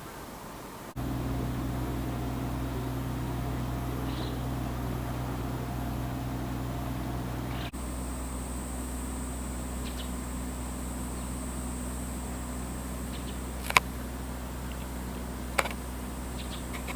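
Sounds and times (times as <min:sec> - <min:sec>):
low mechanical hum: 0:00.1 - 0:16.9.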